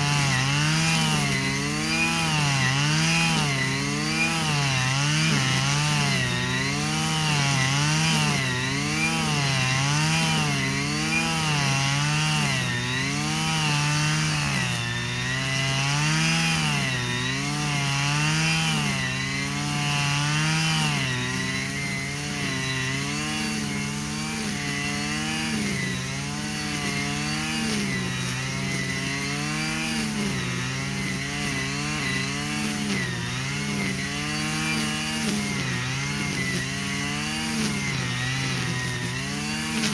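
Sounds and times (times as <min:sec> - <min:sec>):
brushcutter engine revving: 0:00.0 - 0:39.9.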